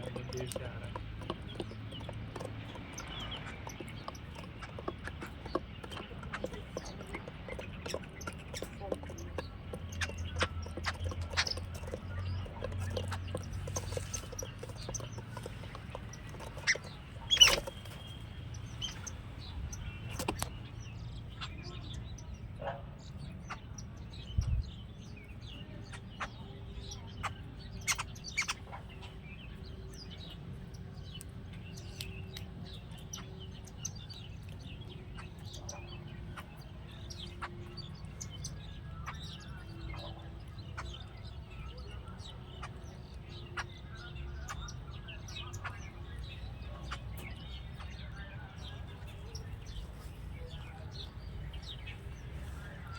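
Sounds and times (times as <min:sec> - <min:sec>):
birds chirping and squeaking: 0:00.0 - 0:52.9.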